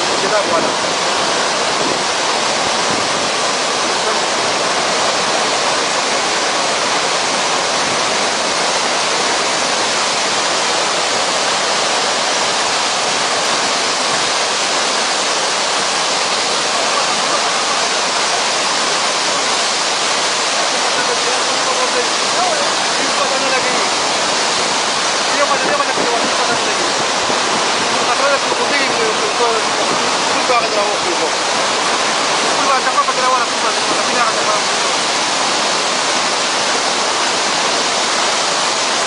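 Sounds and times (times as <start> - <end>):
river rushing: 0.0 - 39.0.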